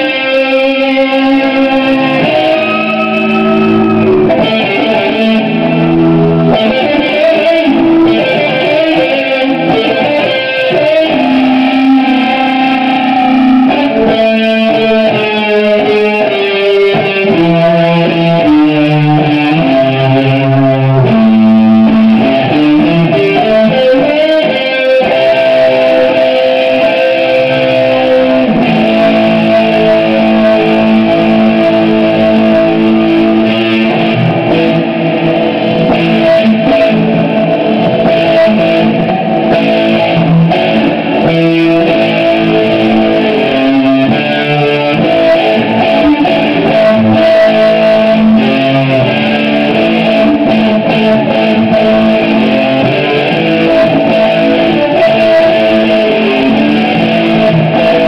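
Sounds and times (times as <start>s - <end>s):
electric guitar through amplifier: 0.0s - 58.0s.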